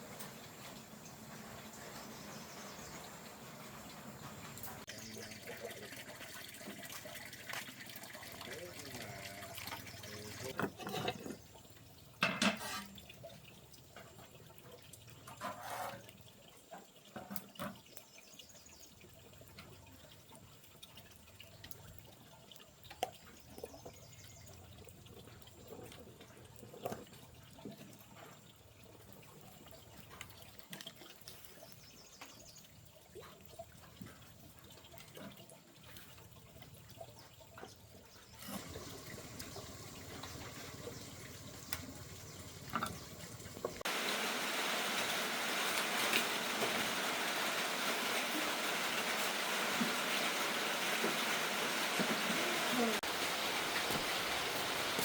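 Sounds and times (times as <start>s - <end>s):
water running: 0.0s - 55.0s.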